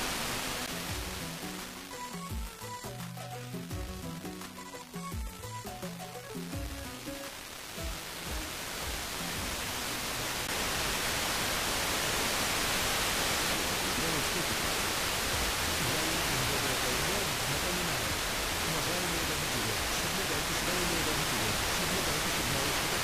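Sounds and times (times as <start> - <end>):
faint weak radio broadcast: 0.0 - 23.0
radio static hiss: 0.0 - 23.0.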